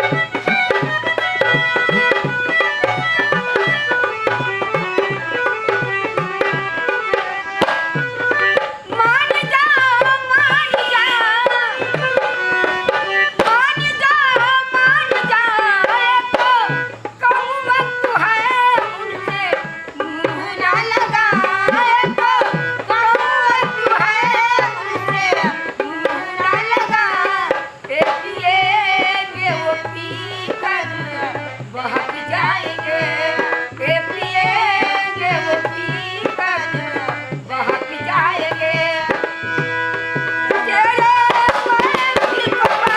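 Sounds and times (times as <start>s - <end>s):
tabla drumming: 0.0s - 42.9s.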